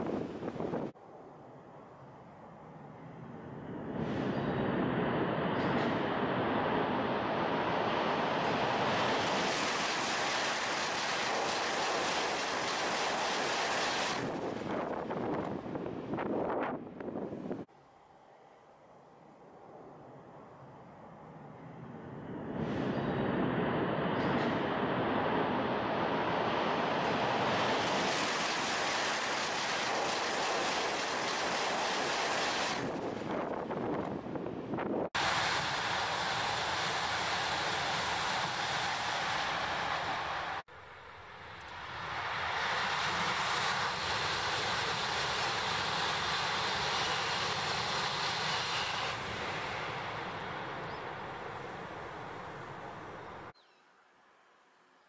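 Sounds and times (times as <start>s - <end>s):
high-speed train passing: 0.0s - 53.6s.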